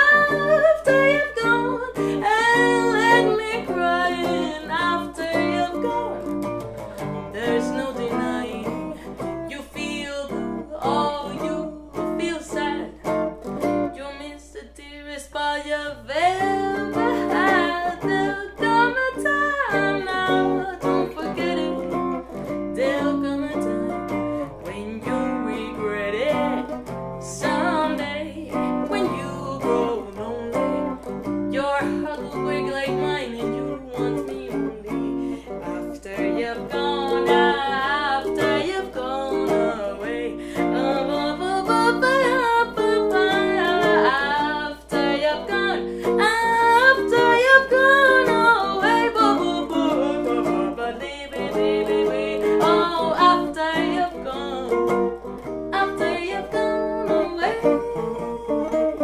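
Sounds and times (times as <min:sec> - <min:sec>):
electric guitar: 0:00.0 - 0:59.0
woman singing: 0:00.0 - 0:59.0.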